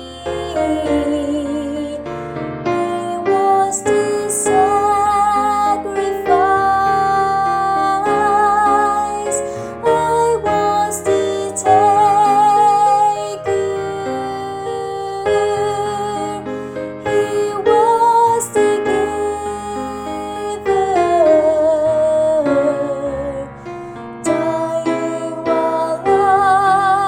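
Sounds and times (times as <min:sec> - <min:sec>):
piano accompaniment: 0:00.0 - 0:27.0
woman singing soprano: 0:00.0 - 0:27.0.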